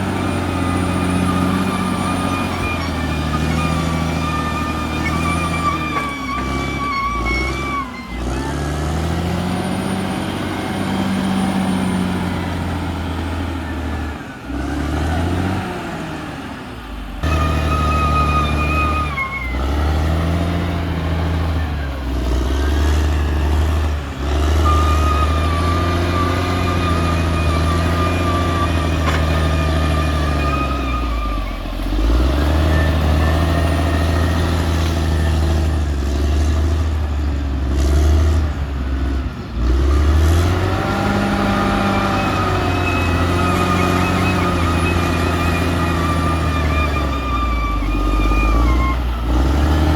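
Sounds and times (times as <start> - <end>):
bulldozer diesel engine under load: 0.0 - 49.9.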